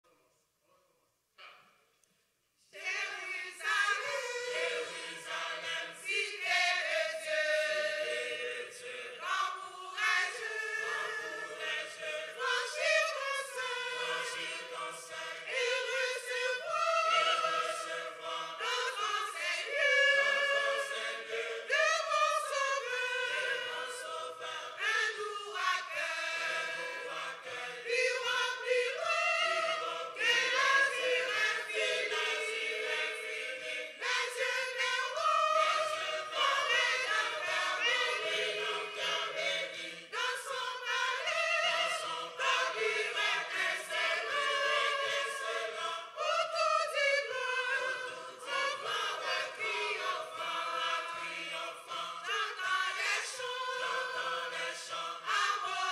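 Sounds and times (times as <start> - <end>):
choir singing a hymn: 2.7 - 55.9.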